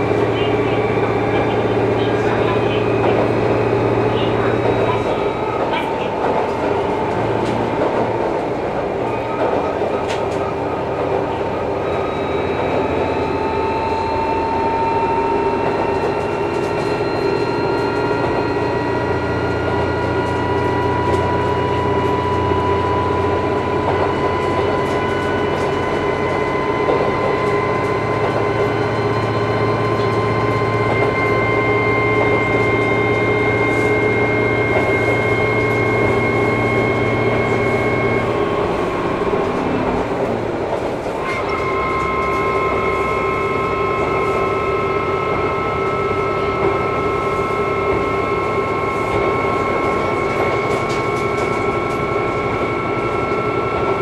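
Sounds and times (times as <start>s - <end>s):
diesel engine drone: 0.0s - 54.0s
rail noise: 0.0s - 54.0s
rising whine: 0.0s - 54.0s.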